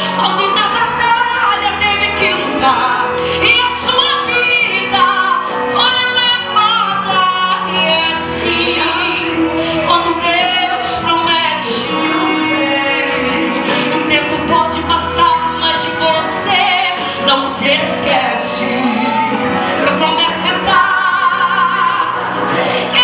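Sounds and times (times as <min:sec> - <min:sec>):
woman singing: 0:00.0 - 0:23.0.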